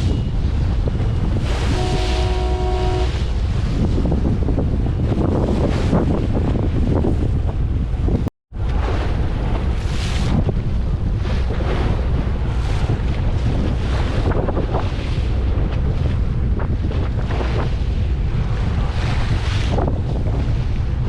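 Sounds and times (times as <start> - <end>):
deep rumble: 0.0 - 21.0
sea washing: 0.0 - 21.0
wind buffeting microphone: 0.0 - 21.0.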